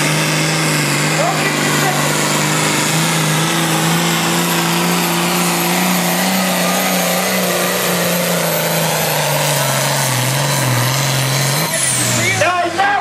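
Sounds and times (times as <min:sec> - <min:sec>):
tractor engine at high revs: 0:00.0 - 0:13.0.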